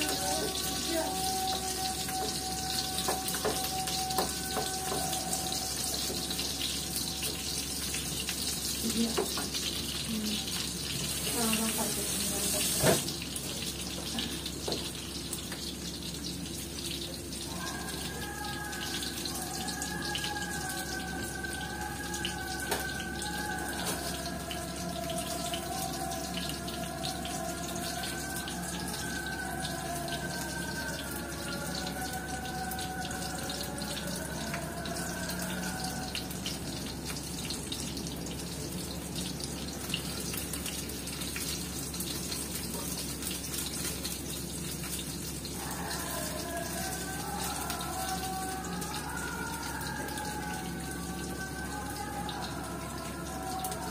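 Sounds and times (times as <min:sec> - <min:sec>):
garlic sizzling in oil: 0:00.0 - 0:31.1, 0:36.1 - 0:50.6.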